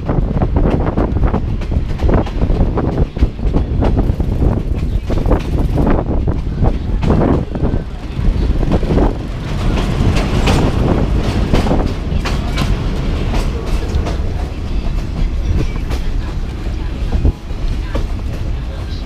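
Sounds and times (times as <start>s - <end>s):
train rumbling: 0.0s - 19.0s
wheels clattering over rails: 0.6s - 19.0s.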